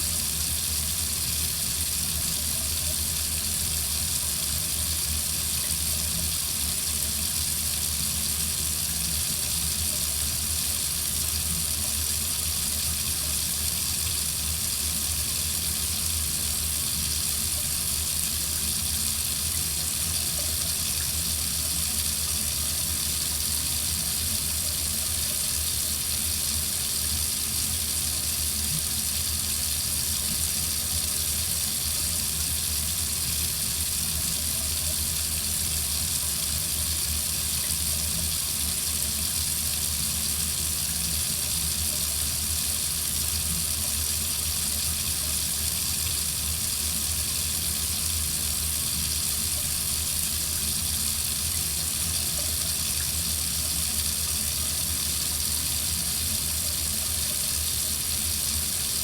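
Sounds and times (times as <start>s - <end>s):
faucet water running into sink: 0.0s - 59.0s.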